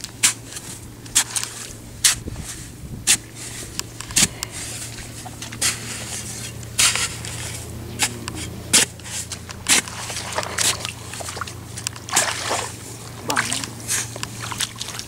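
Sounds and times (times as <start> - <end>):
soil scraping and crumbling: 0.0 - 15.0.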